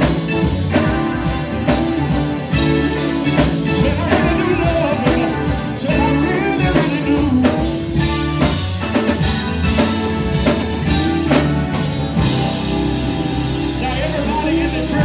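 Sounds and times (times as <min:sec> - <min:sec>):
drum kit hits: 0:00.0 - 0:14.1
gospel band playing: 0:00.0 - 0:15.0.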